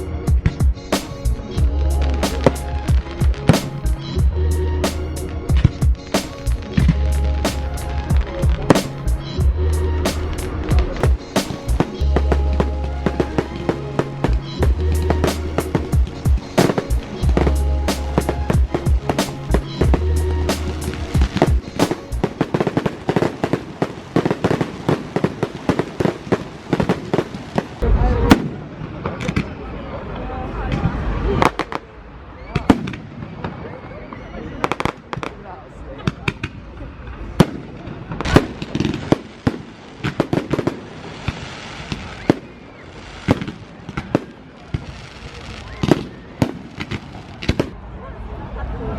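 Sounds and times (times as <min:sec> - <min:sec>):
fireworks bangs and crackling: 0:00.0 - 0:29.8, 0:30.7 - 0:47.8.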